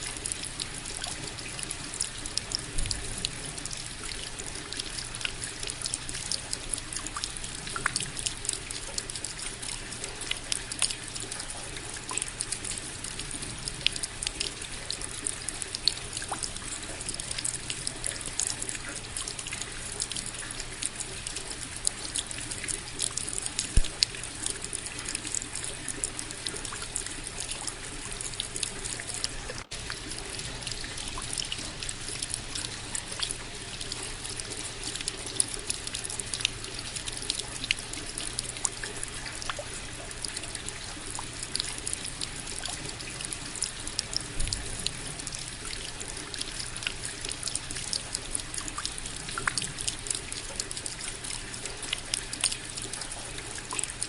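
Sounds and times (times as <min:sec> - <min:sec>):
steady rain with dripping drops: 0:00.0 - 0:54.0.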